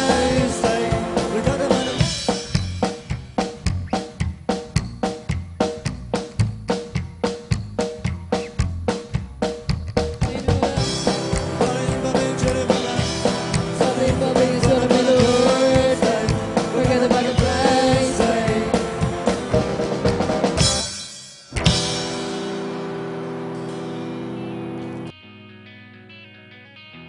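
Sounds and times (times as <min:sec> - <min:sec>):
drums: 0:00.0 - 0:25.2
live band music: 0:00.0 - 0:25.8
electric guitar: 0:00.0 - 0:27.0
upright bass: 0:00.0 - 0:27.0.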